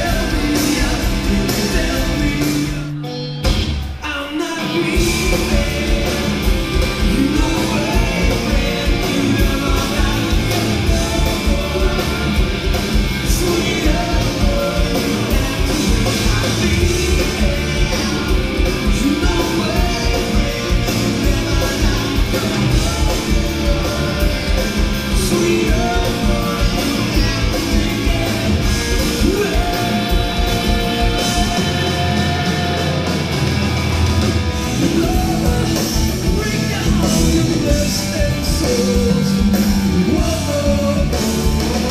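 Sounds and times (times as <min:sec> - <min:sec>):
person singing lead vocal: 0:00.0 - 0:33.6, 0:34.4 - 0:41.9
drums: 0:00.0 - 0:41.9
electric guitars: 0:00.0 - 0:41.9.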